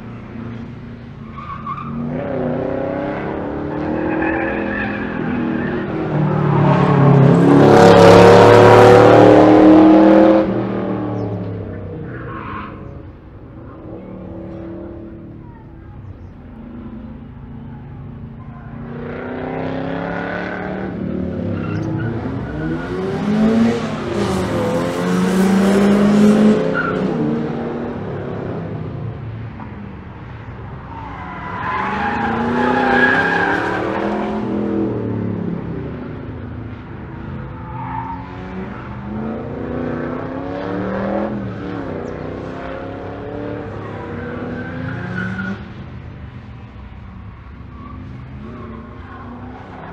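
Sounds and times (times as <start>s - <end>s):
race car engines revving: 0.0s - 49.9s.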